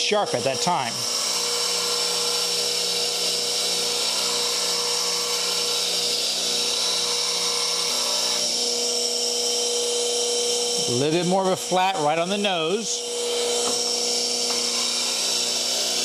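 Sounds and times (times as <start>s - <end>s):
grinder motor hum: 0.0s - 16.0s.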